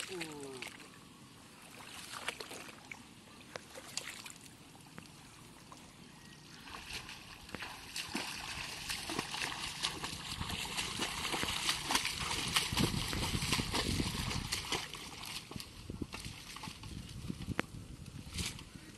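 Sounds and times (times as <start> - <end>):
feet wading through water: 0.0 - 17.6.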